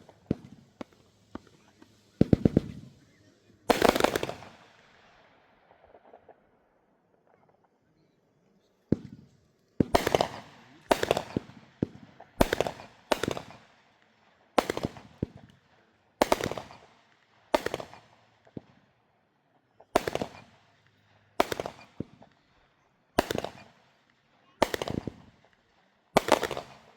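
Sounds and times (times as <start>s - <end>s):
fireworks banging and crackling: 0.0s - 6.6s, 8.8s - 19.0s, 19.7s - 26.9s.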